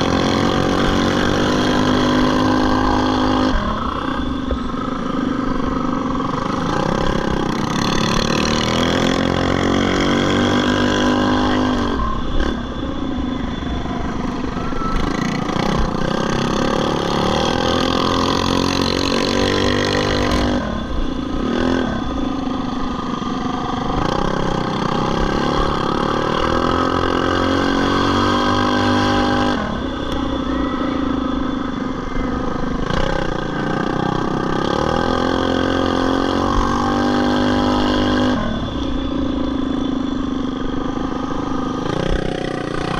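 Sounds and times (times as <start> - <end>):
small engines revving: 0.0 - 42.9.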